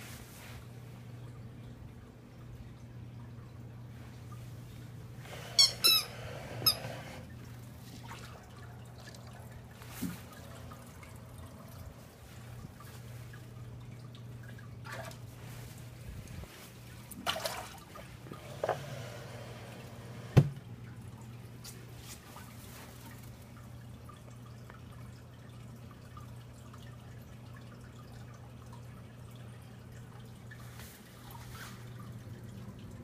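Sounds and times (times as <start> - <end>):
aquarium low hum: 0.0 - 33.0
faint water trickle: 0.0 - 33.0.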